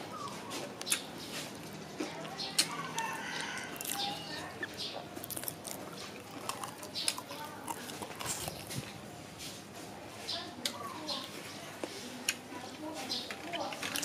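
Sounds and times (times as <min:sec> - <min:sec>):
crunching and chewing fried chicken: 0:00.0 - 0:10.0, 0:10.6 - 0:14.0.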